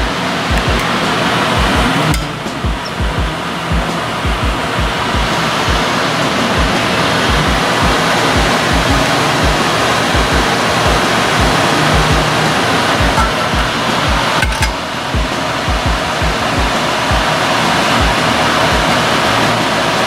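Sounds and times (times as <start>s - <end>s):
music with thumping beat: 0.0s - 1.0s, 1.6s - 12.4s, 13.0s - 17.4s, 18.0s - 19.0s
loud steady hiss: 0.0s - 20.0s.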